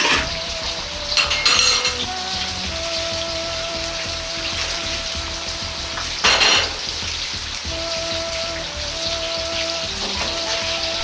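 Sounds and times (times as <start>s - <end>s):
background music with held notes: 0.0s - 11.0s
vegetables sizzling in hot oil: 0.0s - 11.0s.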